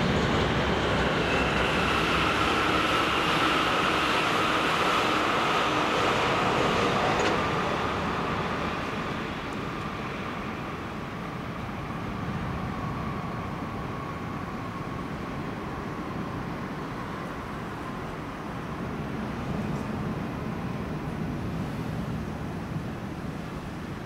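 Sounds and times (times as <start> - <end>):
steady traffic noise: 0.0 - 24.0.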